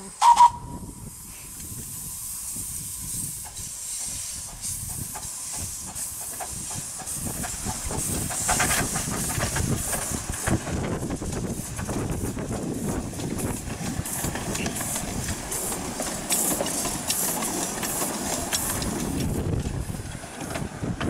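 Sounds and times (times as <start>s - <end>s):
steam hissing: 0.0s - 20.4s
steam locomotive chuffing: 0.0s - 21.0s.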